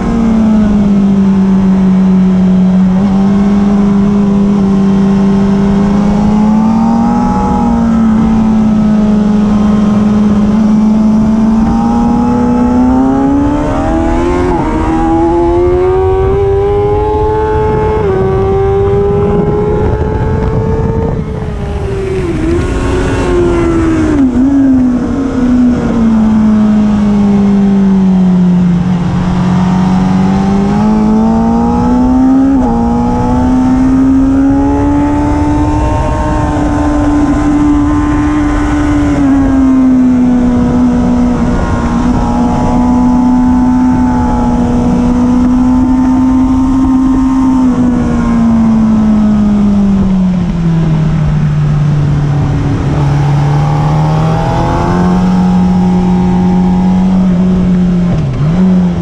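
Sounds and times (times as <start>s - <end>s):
wind noise rushing: 0.0s - 27.6s, 28.3s - 59.0s
motorcycle engine at high revs: 0.0s - 59.0s.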